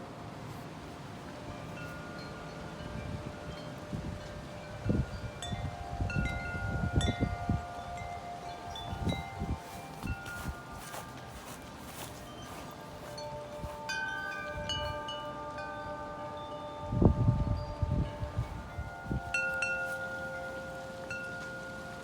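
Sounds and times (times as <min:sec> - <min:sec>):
wind chimes ringing: 0:01.0 - 0:22.0
wind buffeting microphone: 0:01.4 - 0:22.0.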